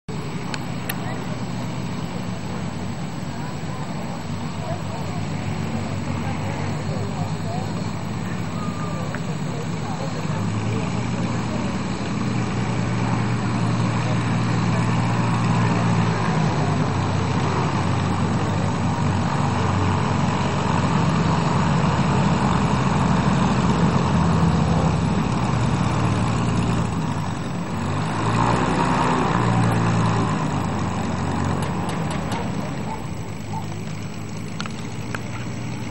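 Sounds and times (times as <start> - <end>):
propeller plane engines droning: 0.0 - 35.9.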